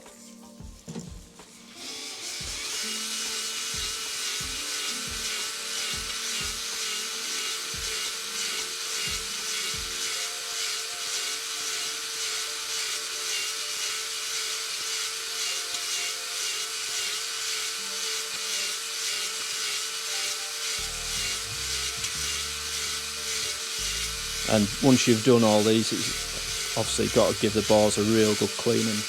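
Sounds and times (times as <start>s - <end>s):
drill whine: 0.9s - 29.0s.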